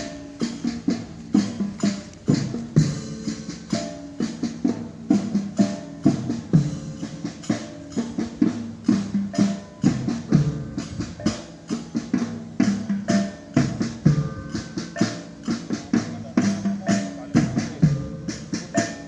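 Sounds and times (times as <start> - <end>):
marching drums: 0.0 - 19.0
ringing pitched percussion: 1.4 - 8.2, 8.9 - 19.0.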